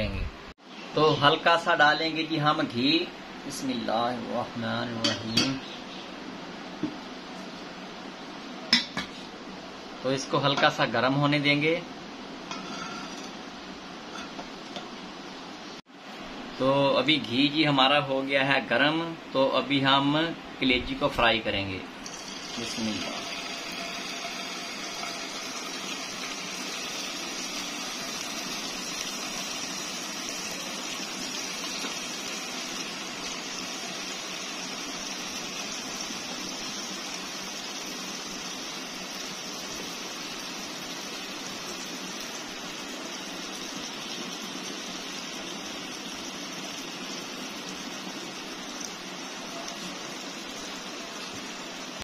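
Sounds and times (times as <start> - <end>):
liver sizzling in ghee: 0.6 - 15.8, 19.3 - 52.0.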